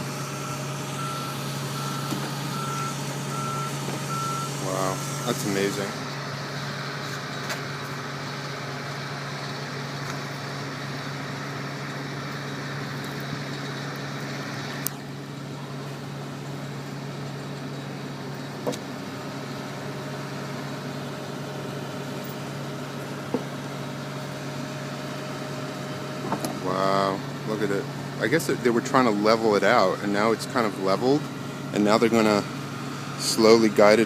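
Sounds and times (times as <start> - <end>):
crane engine droning: 0.0 - 34.0.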